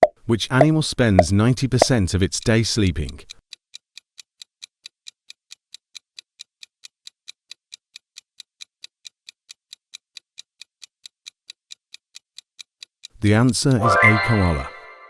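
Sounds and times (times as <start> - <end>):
rapid clock ticks: 0.0 - 13.8.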